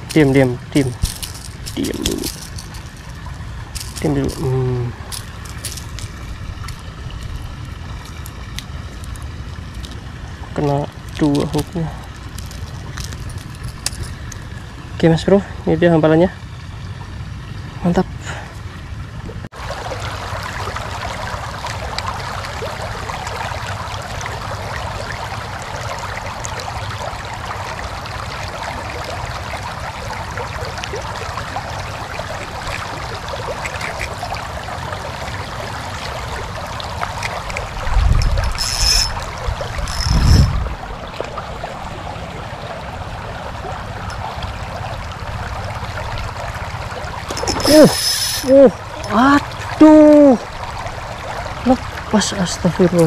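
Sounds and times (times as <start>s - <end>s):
water rushing over riffles: 0.0s - 16.1s, 19.6s - 53.0s.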